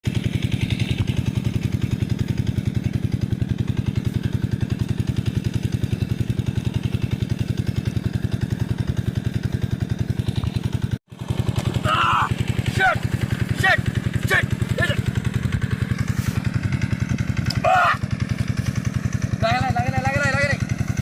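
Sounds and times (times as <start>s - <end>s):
small engine idling: 0.0s - 21.0s.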